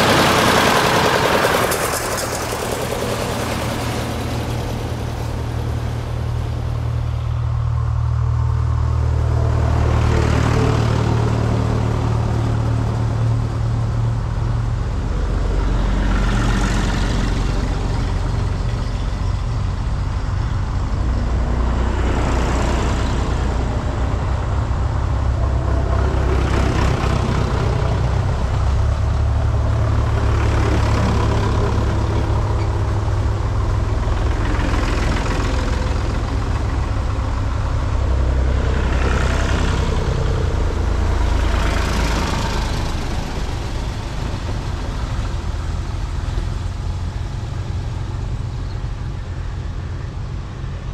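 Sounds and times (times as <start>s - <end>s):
tractor engines droning: 0.0s - 50.9s.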